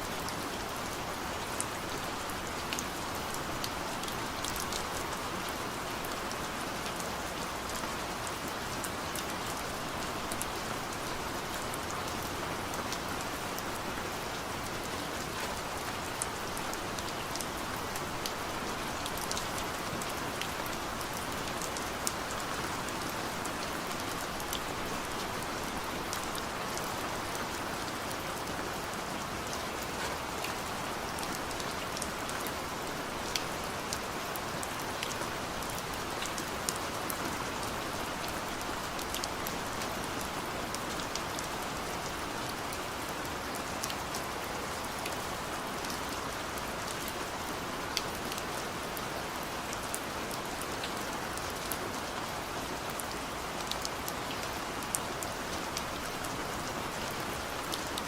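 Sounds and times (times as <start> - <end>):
steady rain: 0.0 - 58.0
raindrops ticking on surface: 1.1 - 47.1, 47.8 - 58.0.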